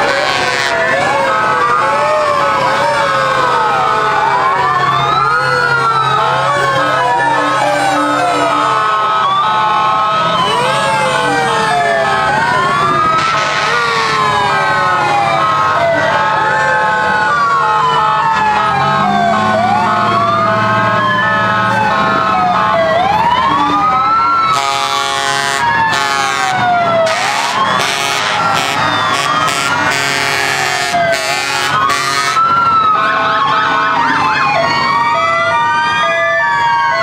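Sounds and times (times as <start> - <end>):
fire truck sirens wailing: 0.0 - 37.0
truck engines rumbling: 0.0 - 37.0.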